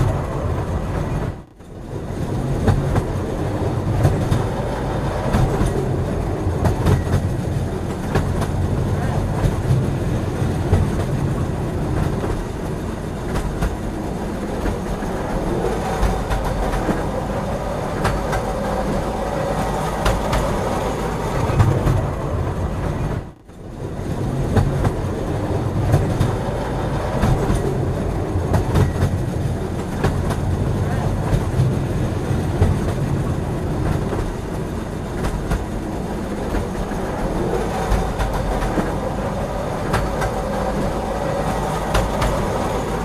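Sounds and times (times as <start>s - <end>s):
train rumbling on track: 0.0s - 43.0s
wheels clickety-clack on rails: 0.0s - 43.0s.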